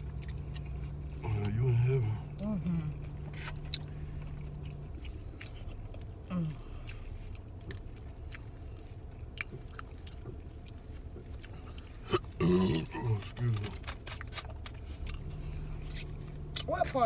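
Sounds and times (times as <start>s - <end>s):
chewing and mouth sounds: 0.0s - 17.0s
low steady hum: 0.0s - 17.0s.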